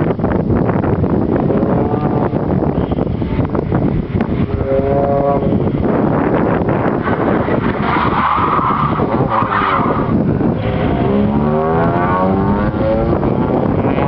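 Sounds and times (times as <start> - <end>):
car engine revving: 1.3 - 14.0.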